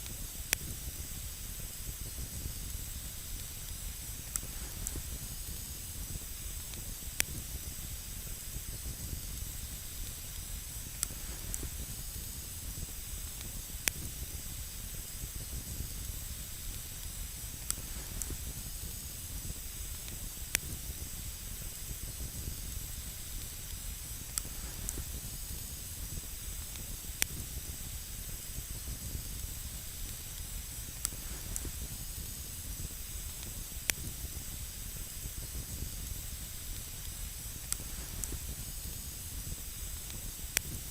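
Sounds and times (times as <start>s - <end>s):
campfire hiss: 0.0s - 40.9s
campfire sharp crackles: 0.0s - 40.9s.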